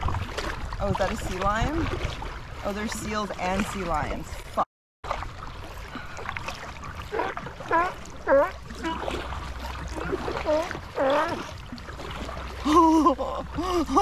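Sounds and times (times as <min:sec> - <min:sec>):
paddle strokes splashing water: 0:00.0 - 0:14.0.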